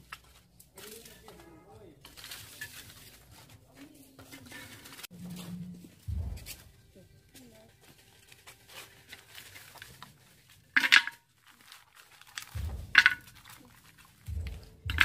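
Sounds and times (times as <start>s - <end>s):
bamboo basket slats rattling: 0.0s - 15.0s.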